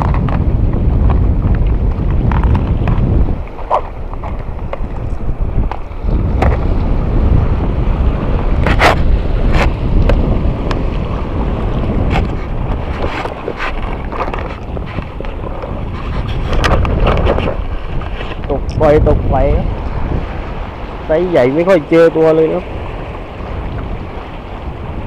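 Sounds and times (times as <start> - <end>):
small waves lapping on rocks: 0.0 - 25.0
wind buffeting microphone: 0.0 - 25.0.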